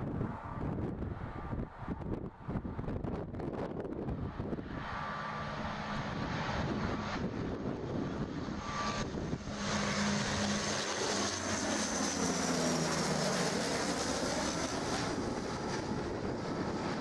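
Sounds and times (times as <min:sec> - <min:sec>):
turboprop airliner passing overhead: 0:00.0 - 0:17.0.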